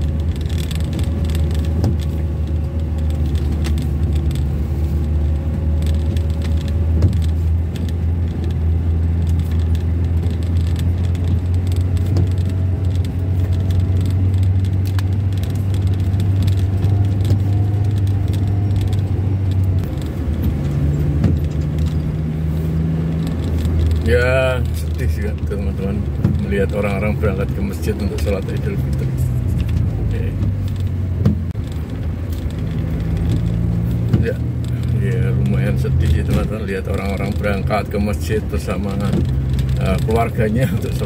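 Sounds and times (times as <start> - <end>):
vehicle engine drone in cab: 0.0 - 41.0.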